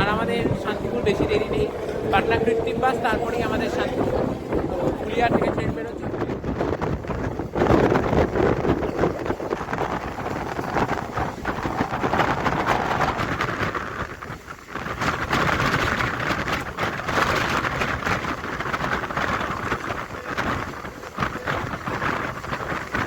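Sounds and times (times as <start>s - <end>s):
air rushing through windows: 0.0s - 23.0s
train wheels rumbling on track: 0.0s - 23.0s.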